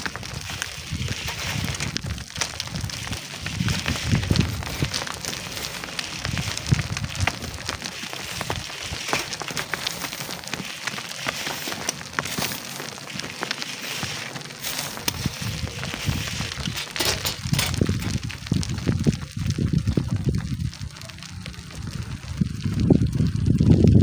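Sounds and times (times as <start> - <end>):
crackling hiss with clicks: 0.0 - 24.0
wind gusting on microphone: 0.0 - 24.0.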